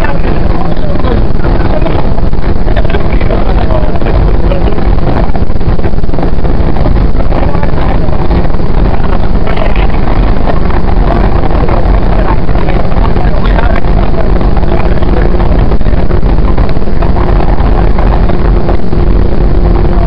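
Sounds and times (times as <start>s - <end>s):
faint steady hum: 0.0s - 20.0s
train wheels rumbling on rail: 0.0s - 20.0s.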